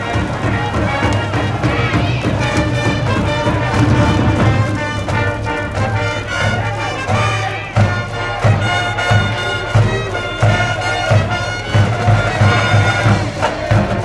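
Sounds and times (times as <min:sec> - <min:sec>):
bass drum beat: 0:00.0 - 0:14.0
brass band playing: 0:00.0 - 0:14.0.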